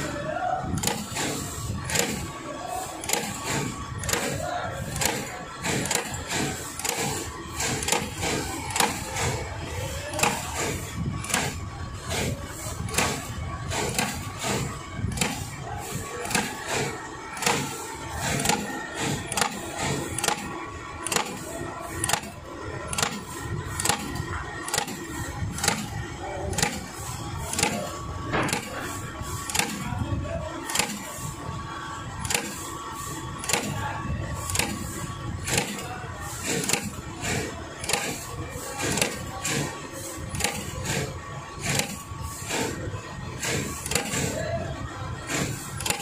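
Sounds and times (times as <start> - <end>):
machine whine: 0.0 - 46.0.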